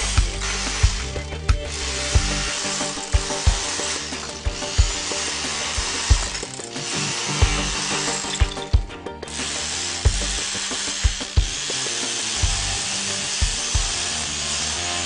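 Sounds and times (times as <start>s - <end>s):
background music with beat: 0.0s - 14.2s
rotary hammer whirring: 0.0s - 15.0s.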